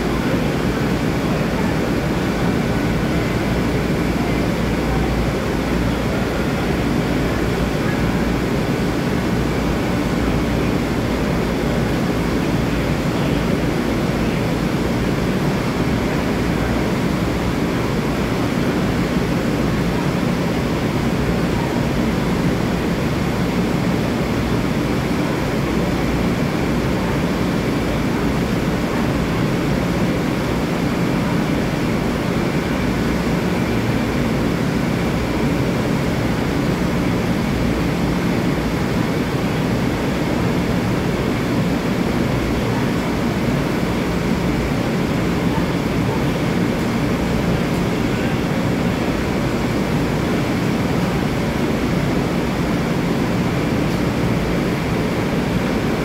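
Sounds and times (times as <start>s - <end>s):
electric train equipment humming: 0.0s - 56.0s.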